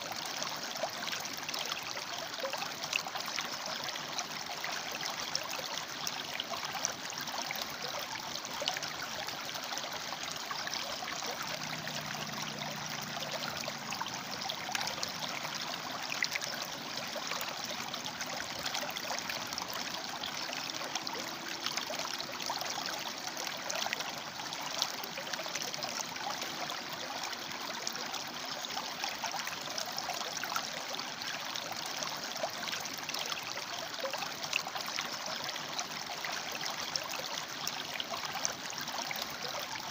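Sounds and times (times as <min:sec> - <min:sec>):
river water rushing over rocks: 0:01.8 - 0:39.9.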